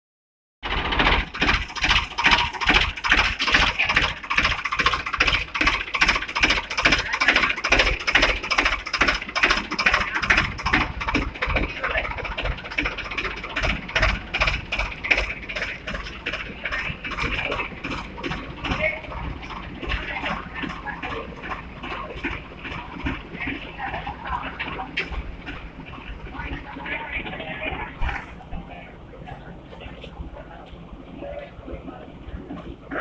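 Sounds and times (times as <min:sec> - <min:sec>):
concrete mixer clattering: 0:00.6 - 0:28.6.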